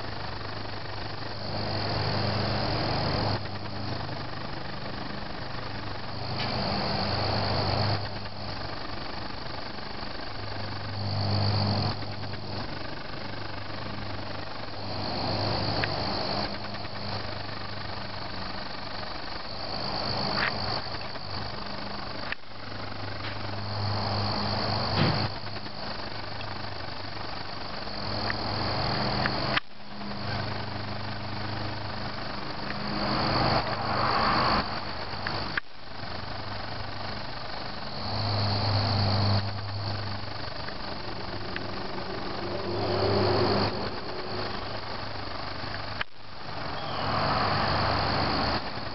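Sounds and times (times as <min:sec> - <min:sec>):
crickets chirping: 0:00.0 - 0:48.9
low hum: 0:00.0 - 0:48.9.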